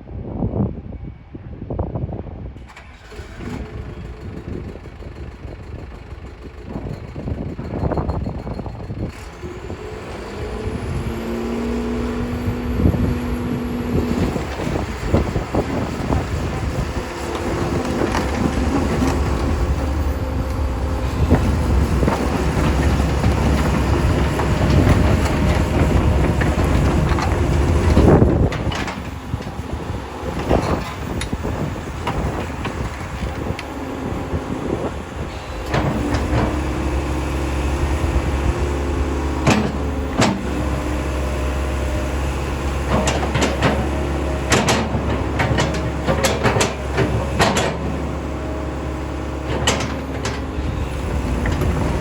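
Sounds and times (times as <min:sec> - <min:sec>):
excavator diesel engine: 0:02.6 - 0:52.0
hydraulic whine: 0:02.6 - 0:52.0.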